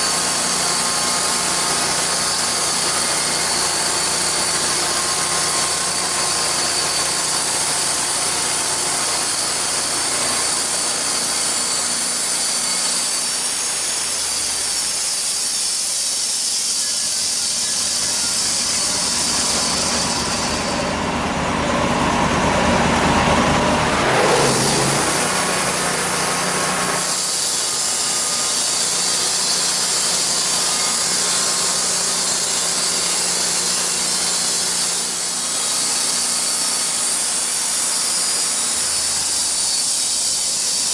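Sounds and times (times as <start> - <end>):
sawmill blade cutting log: 0.0 - 40.9.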